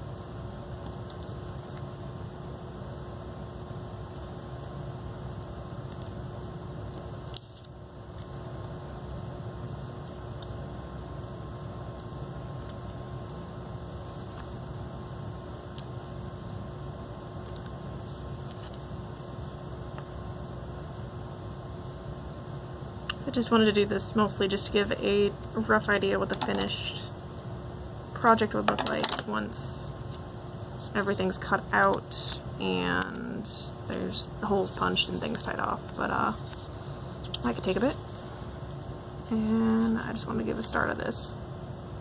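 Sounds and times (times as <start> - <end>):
room hum and hiss: 0.0 - 42.0.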